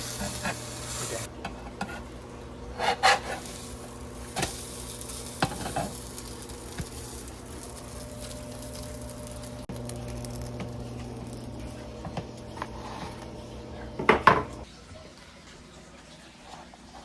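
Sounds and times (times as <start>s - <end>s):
steady low hum: 0.0s - 14.6s
food sizzling in a pan: 0.0s - 14.7s.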